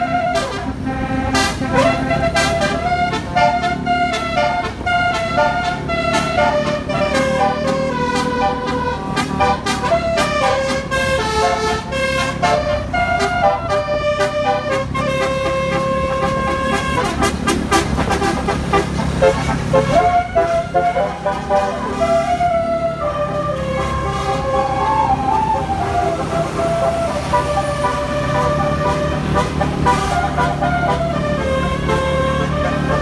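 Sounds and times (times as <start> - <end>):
musical horn playing a tune: 0.0 - 33.0
vehicle engine rumbling: 0.0 - 33.0.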